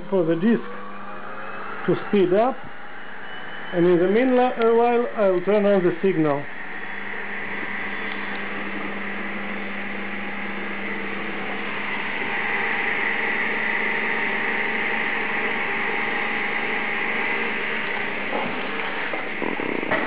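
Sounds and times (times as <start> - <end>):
electric motor whirring: 0.0 - 20.0.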